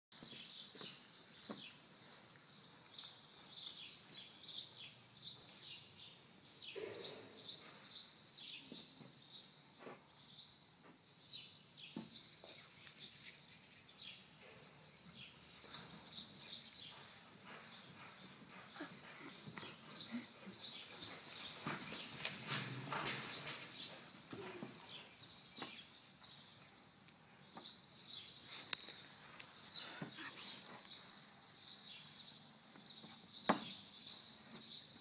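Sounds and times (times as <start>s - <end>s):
small birds chirping: 0.2s - 35.0s.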